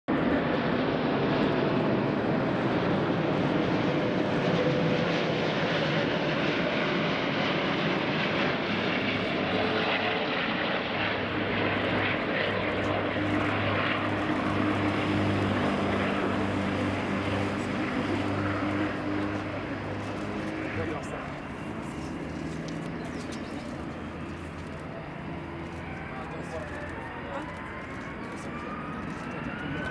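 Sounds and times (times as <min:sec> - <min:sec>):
jet engine rumble and hiss: 0:00.1 - 0:29.9.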